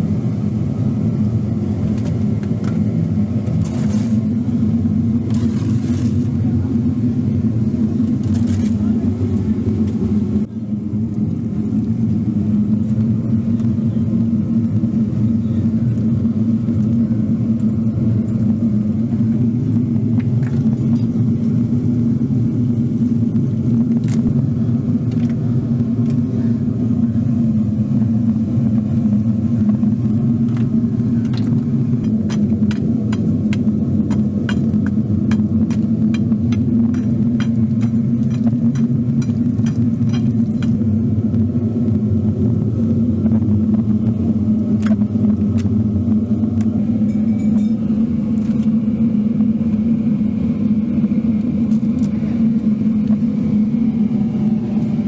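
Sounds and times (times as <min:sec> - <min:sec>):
low mechanical rumble: 0:00.0 - 0:55.0.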